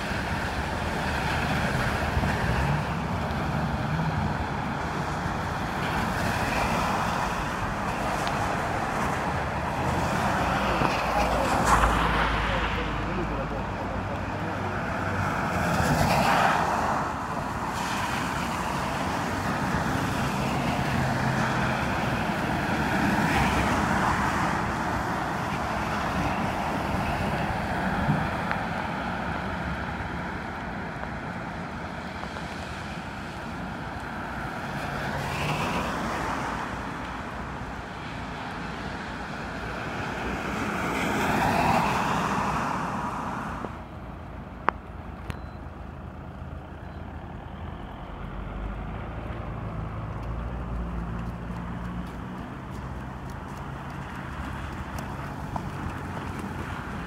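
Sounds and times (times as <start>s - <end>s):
background traffic rush: 0.0s - 57.0s
vehicles passing on wet road: 0.0s - 57.0s.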